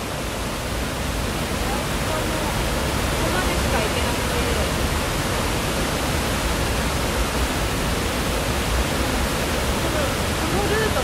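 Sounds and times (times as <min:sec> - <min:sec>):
water rushing through gorge: 0:00.0 - 0:11.0.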